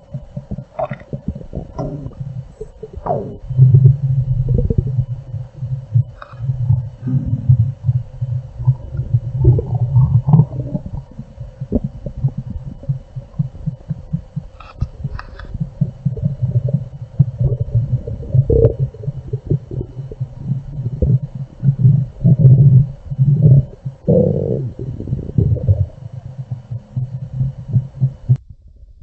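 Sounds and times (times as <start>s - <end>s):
stomach rumbling and gurgling: 0.0s - 29.0s.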